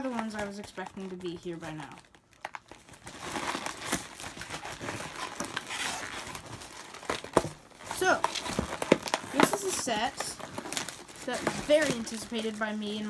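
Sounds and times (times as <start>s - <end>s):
plastic bag and tape crinkling: 0.0s - 13.0s.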